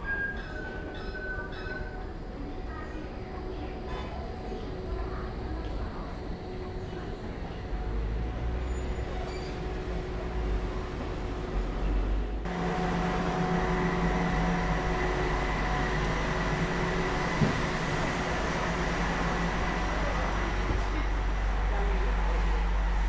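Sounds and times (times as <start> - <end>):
tram hum with held tones: 0.0 - 23.0
tram rolling rumble: 0.0 - 23.0.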